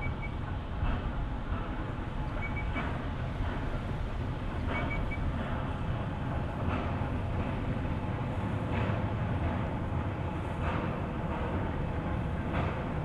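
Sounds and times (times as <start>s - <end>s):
steam train rumbling: 0.0s - 13.0s
train wheels clattering: 0.0s - 13.0s.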